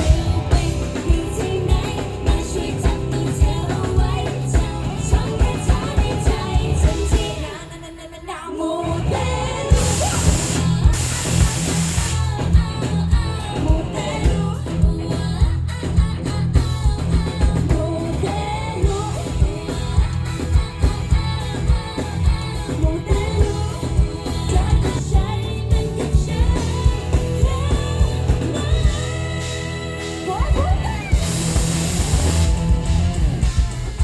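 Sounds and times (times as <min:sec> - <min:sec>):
pop song with singing and beat: 0:00.0 - 0:33.7.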